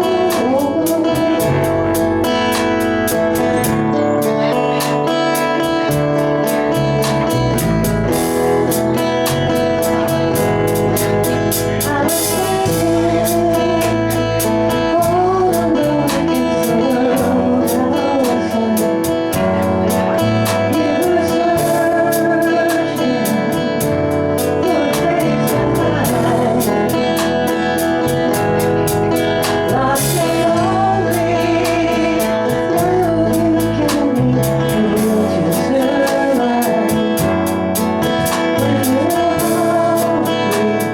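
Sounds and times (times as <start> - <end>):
guitar: 0.0 - 40.9
person singing: 0.0 - 40.9
steady beat: 0.0 - 40.9.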